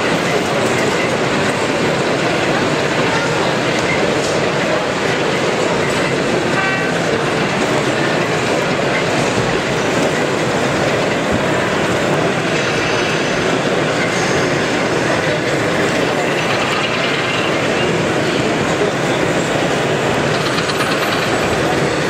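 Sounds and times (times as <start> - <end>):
model locomotive engine noise: 0.0 - 22.0.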